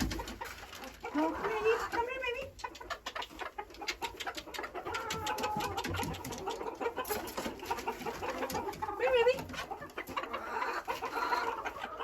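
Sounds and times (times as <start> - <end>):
chickens clucking and trilling: 0.0 - 12.0.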